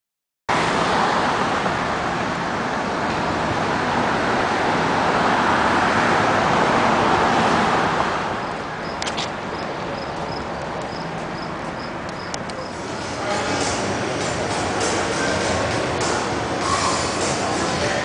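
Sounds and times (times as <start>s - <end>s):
road traffic passing: 0.5s - 18.0s.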